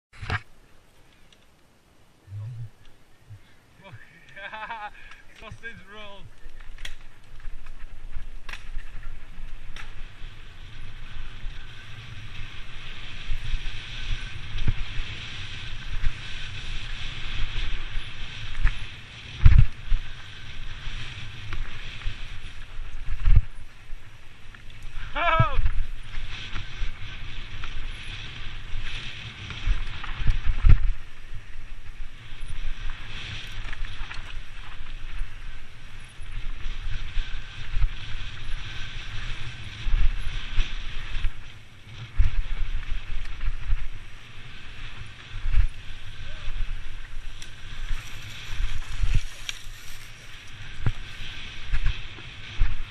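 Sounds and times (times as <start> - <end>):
bike tyre noise: 0.1 - 52.9
wind buffeting microphone: 2.2 - 52.9
bike rattle: 3.3 - 52.9.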